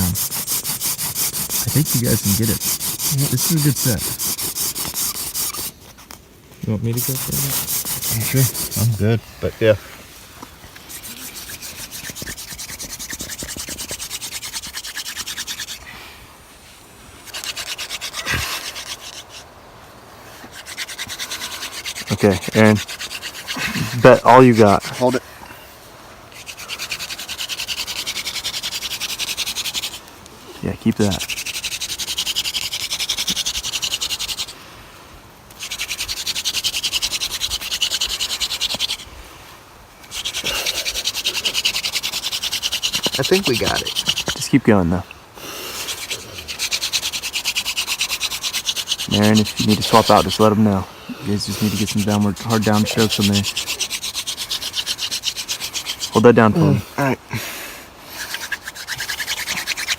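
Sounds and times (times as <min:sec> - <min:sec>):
hand drill scratching on wood: 0:00.0 - 0:15.9, 0:17.2 - 0:19.5, 0:20.3 - 0:25.2, 0:26.3 - 0:30.1, 0:30.8 - 0:34.6, 0:35.5 - 0:39.1, 0:40.0 - 0:57.4, 0:58.0 - 0:59.9
wooden spindle rasping on fireboard: 0:00.0 - 0:15.9, 0:16.6 - 0:25.2, 0:26.3 - 0:30.2, 0:30.9 - 0:34.6, 0:35.5 - 0:39.1, 0:40.0 - 0:56.9, 0:58.0 - 0:59.9.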